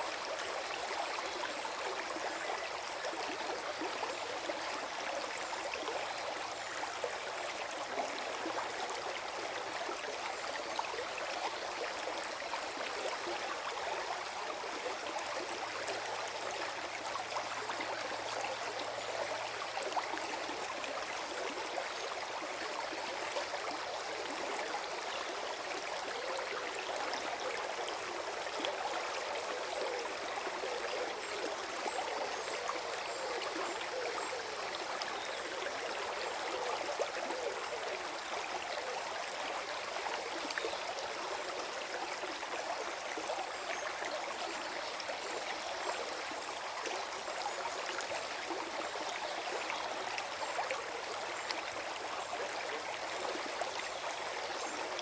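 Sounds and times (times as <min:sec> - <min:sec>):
stream gurgling over stones: 0:00.0 - 0:55.0.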